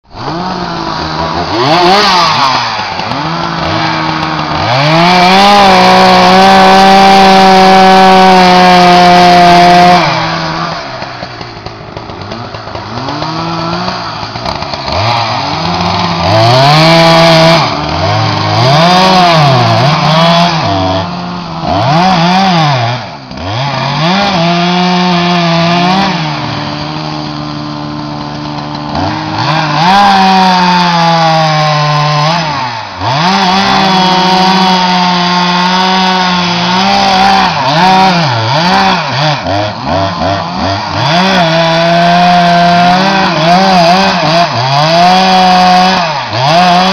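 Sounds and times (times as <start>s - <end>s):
chainsaw engine revving: 0.1s - 46.9s.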